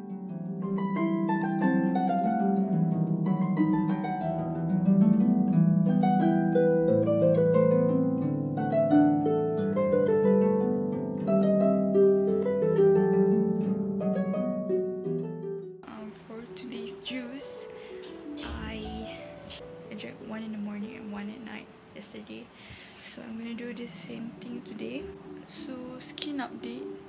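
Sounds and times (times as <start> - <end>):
light plucked tune: 0.0 - 22.4, 23.2 - 27.0.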